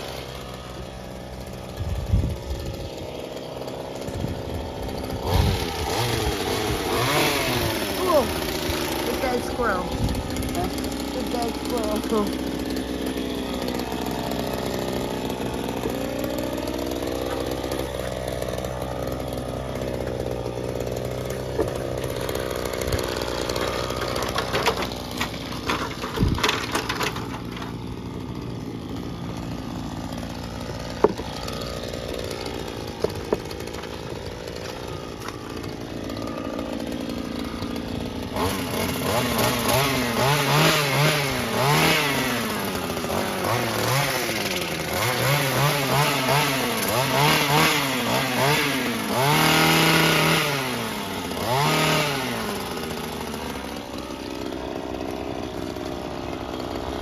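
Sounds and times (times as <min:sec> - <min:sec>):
small gas engine running: 0:00.0 - 0:57.0.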